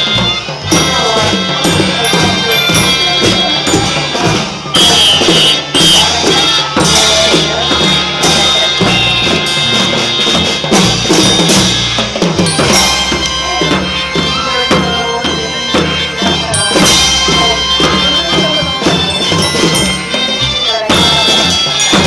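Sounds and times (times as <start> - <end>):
children's marching band playing: 0.0 - 22.0
drums beating march rhythm: 0.0 - 22.0.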